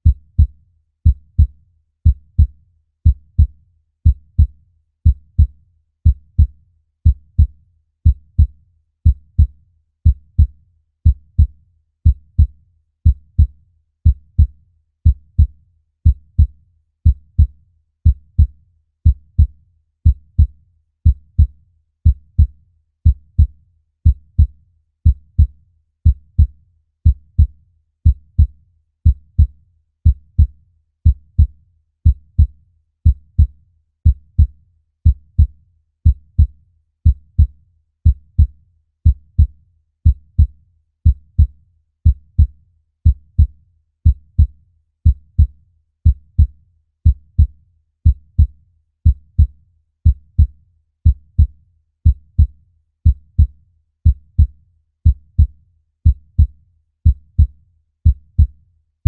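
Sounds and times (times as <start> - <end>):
human heartbeat: 0.0 - 58.6.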